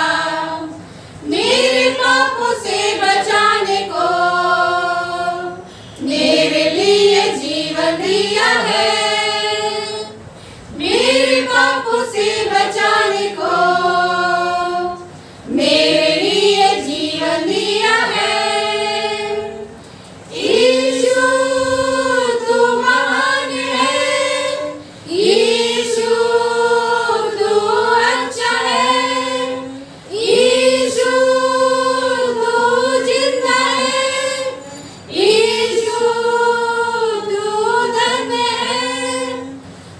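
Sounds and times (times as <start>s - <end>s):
women singing a hymn: 0.0s - 39.9s.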